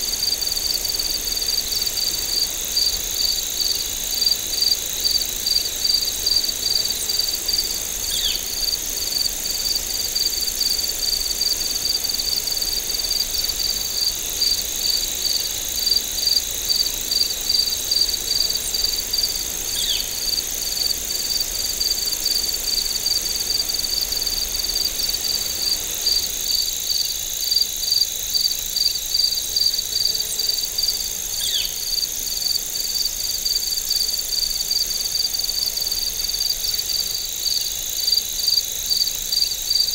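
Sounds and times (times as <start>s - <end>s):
crickets chirping: 0.0s - 39.9s
high-pitched insect drone: 0.1s - 39.9s.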